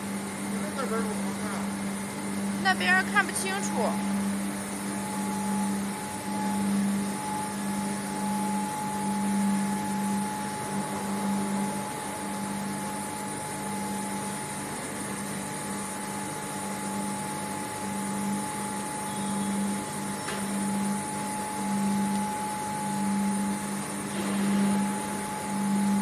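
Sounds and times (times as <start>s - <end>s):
high machine whine: 0.0s - 26.0s
low machinery hum: 0.0s - 26.0s.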